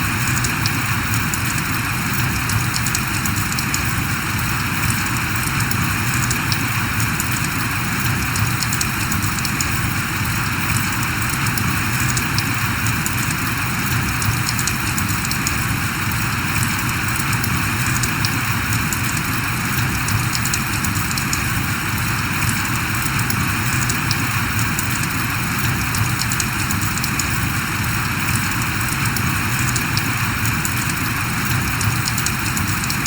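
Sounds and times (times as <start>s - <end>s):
rain hiss: 0.0s - 33.0s
raindrop ticks: 0.0s - 33.0s.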